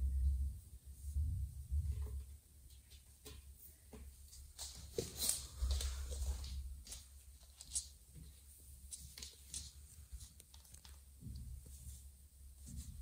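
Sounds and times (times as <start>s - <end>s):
rustling: 1.7s - 13.0s
kittens scuffling on hard floor: 1.8s - 13.0s.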